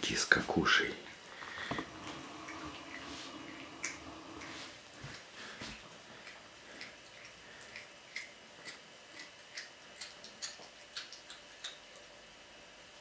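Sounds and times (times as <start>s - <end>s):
cat chewing crunching: 1.2s - 12.2s.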